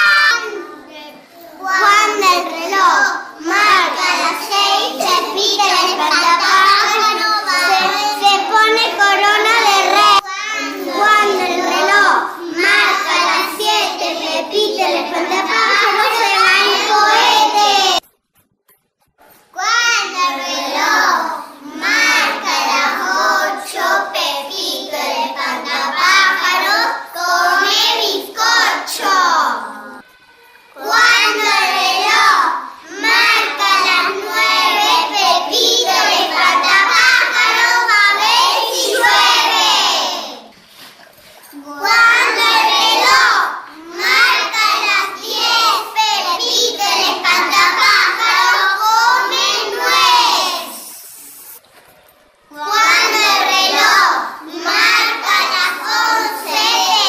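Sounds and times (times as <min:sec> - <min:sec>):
children singing: 0:00.0 - 0:00.8, 0:01.6 - 0:18.1, 0:19.6 - 0:40.5, 0:41.5 - 0:51.2, 0:52.5 - 0:57.0.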